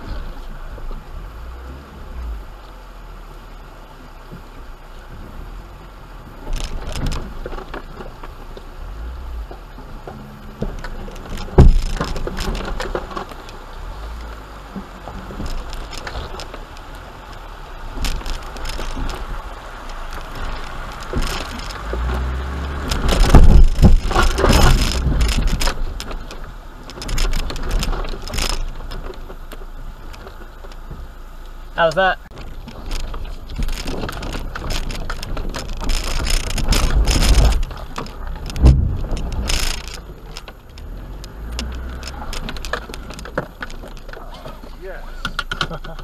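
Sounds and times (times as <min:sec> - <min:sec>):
low engine rumble: 0:00.0 - 0:46.0
wheels knocking and rattling over rocks: 0:00.0 - 0:46.0.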